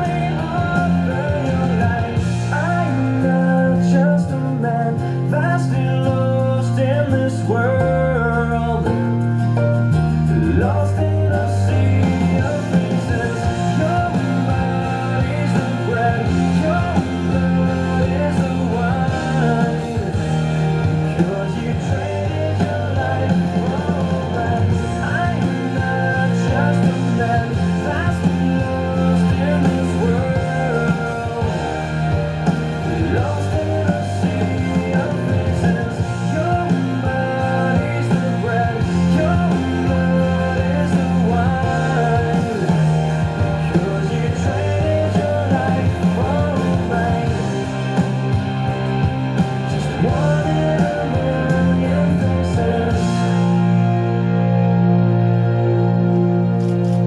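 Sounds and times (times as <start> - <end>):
rock song with singer and guitars: 0.0 - 57.0.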